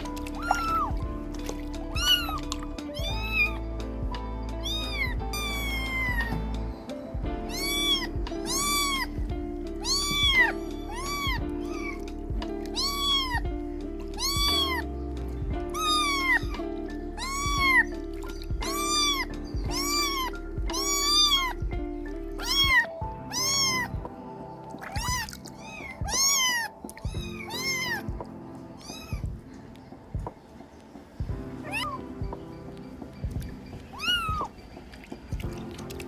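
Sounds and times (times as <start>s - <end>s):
kittens meowing: 0.0s - 29.6s, 31.6s - 32.4s, 33.2s - 34.6s
background music: 0.0s - 36.0s.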